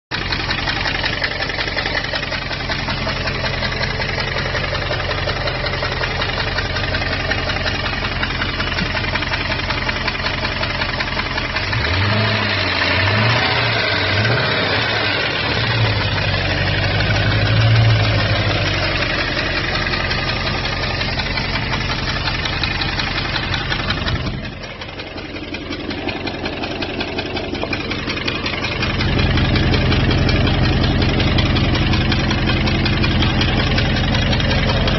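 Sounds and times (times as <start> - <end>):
car engine running and revving: 0.1 - 34.9.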